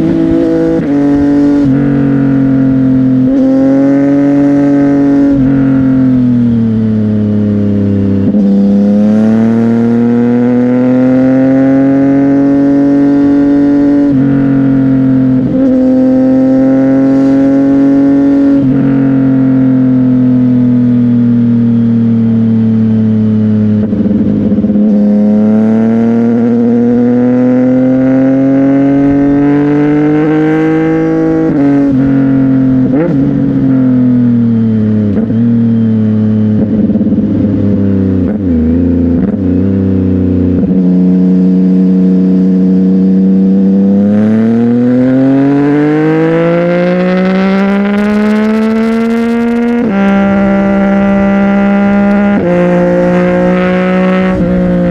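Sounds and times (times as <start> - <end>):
motorcycle engine revving through gears: 0.0 - 54.9.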